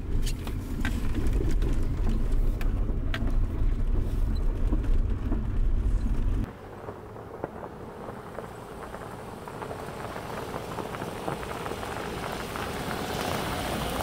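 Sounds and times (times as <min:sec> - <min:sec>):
tyres crunching over gravel: 0:00.0 - 0:14.0.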